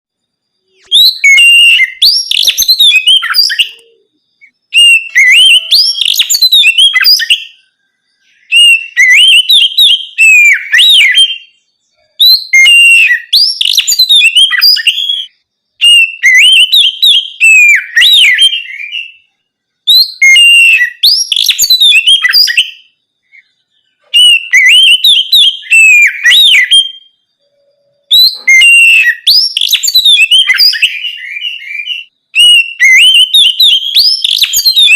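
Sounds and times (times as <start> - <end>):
bird singing whistled phrases: 0.5 - 34.9.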